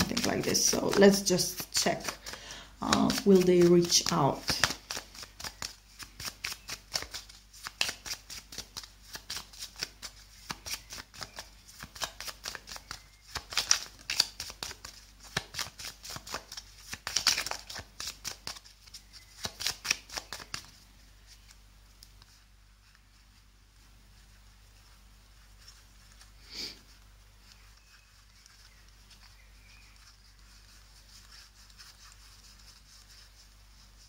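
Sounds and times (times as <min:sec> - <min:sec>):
playing cards shuffling: 0:00.0 - 0:23.2, 0:24.2 - 0:33.9.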